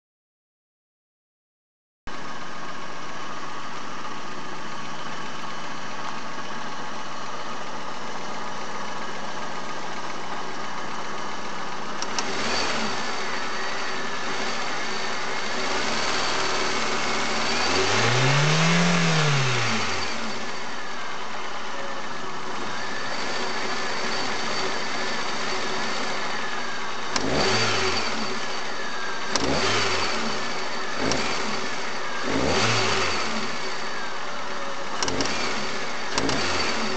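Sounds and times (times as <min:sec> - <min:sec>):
car engine idling and revving: 0:02.1 - 0:36.9.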